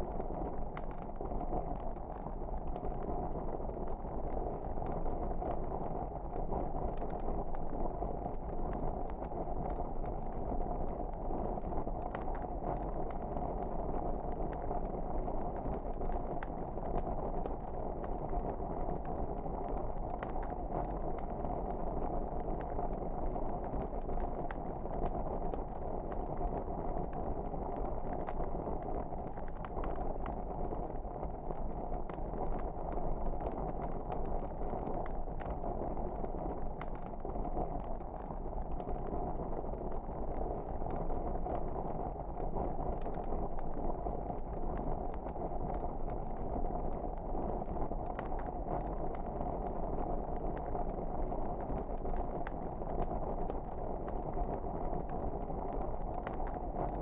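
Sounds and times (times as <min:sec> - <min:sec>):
wood fire crackling: 0:00.5 - 0:57.0.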